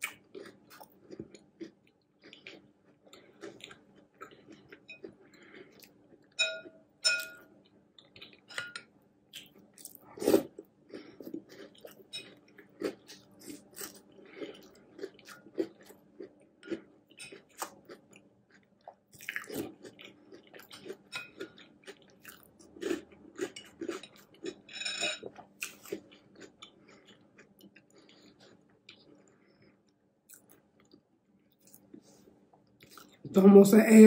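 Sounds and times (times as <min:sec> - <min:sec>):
chewing crunchy cereal: 0:00.0 - 0:06.4, 0:08.0 - 0:33.3.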